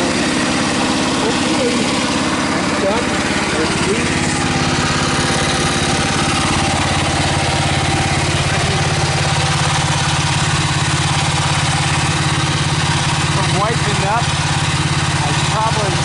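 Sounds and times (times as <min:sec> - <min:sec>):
excavator engine running steadily: 0:00.0 - 0:16.0.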